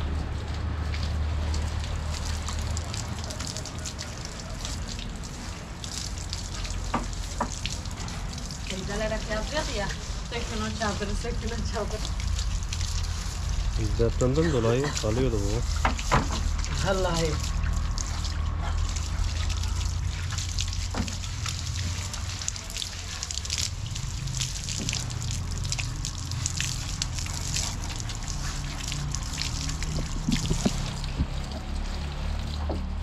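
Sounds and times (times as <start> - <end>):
water splashing and dripping: 0.0 - 33.0.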